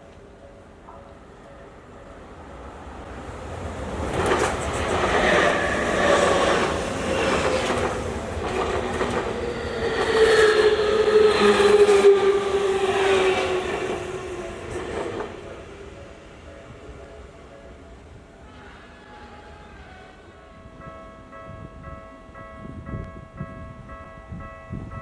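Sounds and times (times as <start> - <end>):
electric train passing: 0.1 - 24.9.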